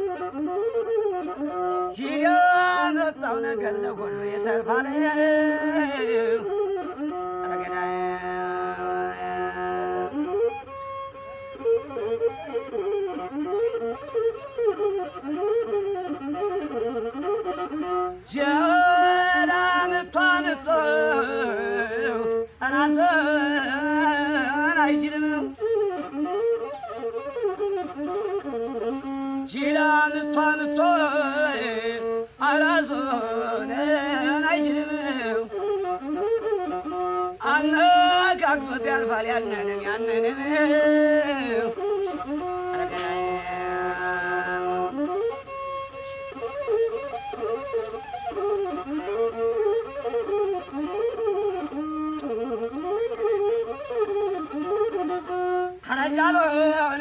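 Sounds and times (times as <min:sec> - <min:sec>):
bowed fiddle melody: 0:00.0 - 0:57.0.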